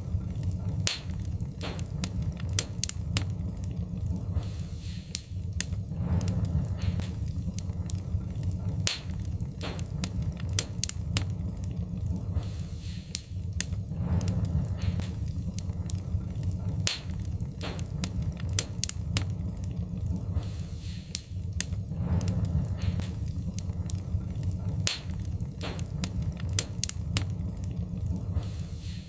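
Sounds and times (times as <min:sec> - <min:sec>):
low rumble: 0:00.0 - 0:29.0
sharp pops of fire: 0:00.0 - 0:29.0
wood fire crackling: 0:00.0 - 0:29.0.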